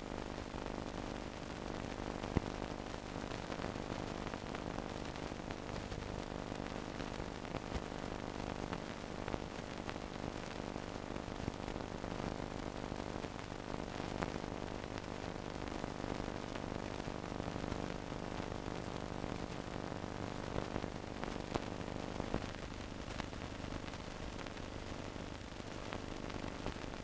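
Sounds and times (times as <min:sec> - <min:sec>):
film soundtrack hiss: 0:00.0 - 0:27.0
hum: 0:00.0 - 0:27.0.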